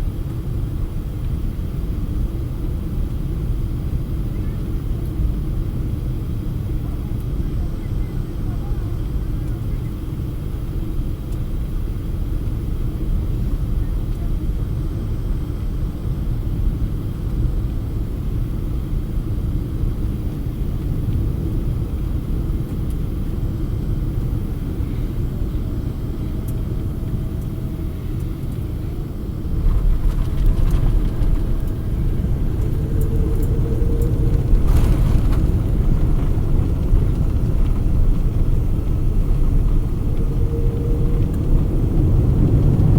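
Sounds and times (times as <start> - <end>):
airliner rumble: 0.0 - 42.9.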